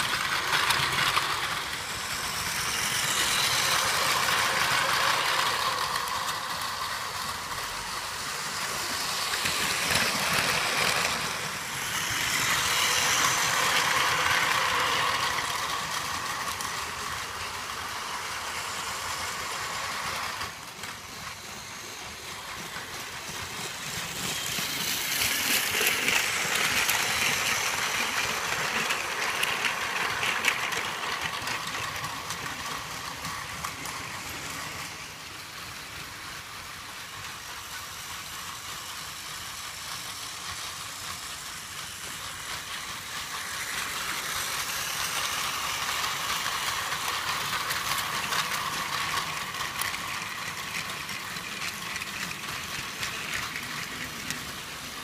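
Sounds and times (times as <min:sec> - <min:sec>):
toy train motors whirring: 0:00.0 - 0:55.0.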